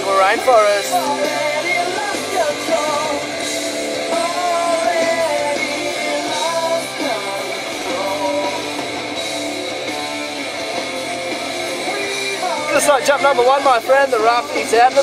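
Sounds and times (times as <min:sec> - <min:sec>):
background music with guitar: 0:00.0 - 0:15.0.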